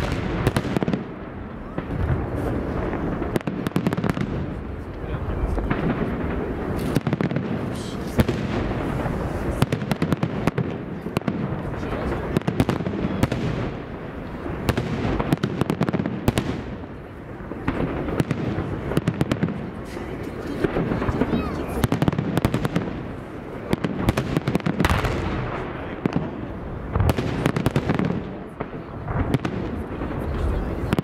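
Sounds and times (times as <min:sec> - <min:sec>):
firework crackling: 0:00.0 - 0:31.0.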